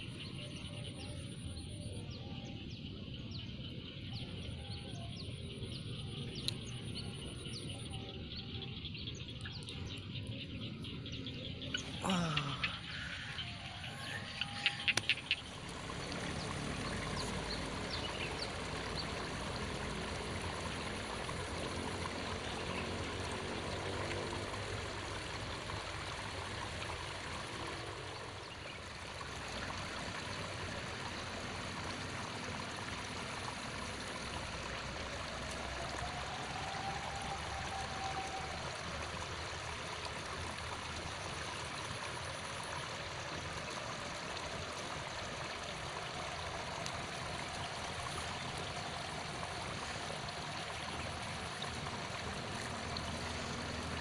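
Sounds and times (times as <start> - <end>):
flowing water trickling: 0.0 - 54.0.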